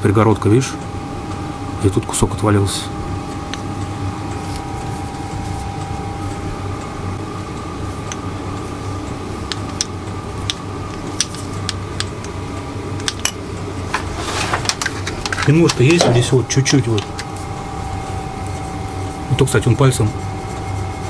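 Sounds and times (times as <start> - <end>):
workshop hum: 0.0 - 21.0.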